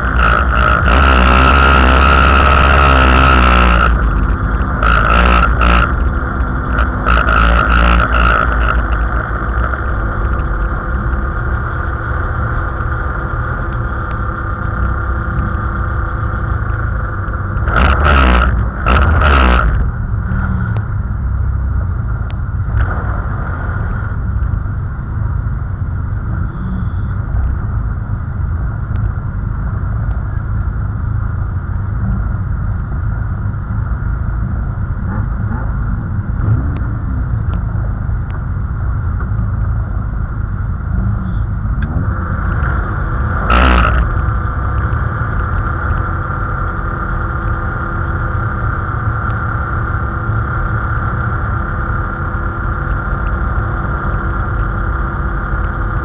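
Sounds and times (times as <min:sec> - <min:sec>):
race car engine idling: 0:00.0 - 0:56.0.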